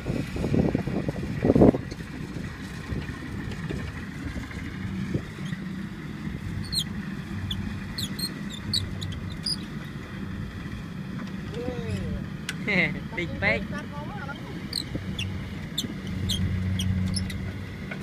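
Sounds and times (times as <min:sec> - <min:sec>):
diesel engine running: 0:00.1 - 0:18.0.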